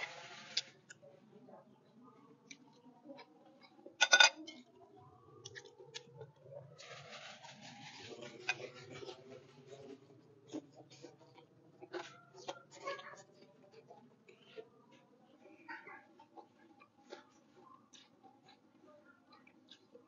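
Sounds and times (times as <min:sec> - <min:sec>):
chewing and crunching: 0:02.4 - 0:20.0.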